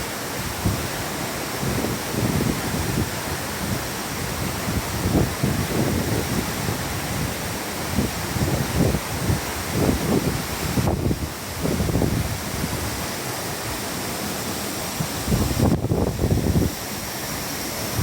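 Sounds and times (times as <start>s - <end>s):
waterfall rushing: 0.0s - 18.0s
wind buffeting microphone: 0.4s - 13.9s, 14.7s - 18.0s.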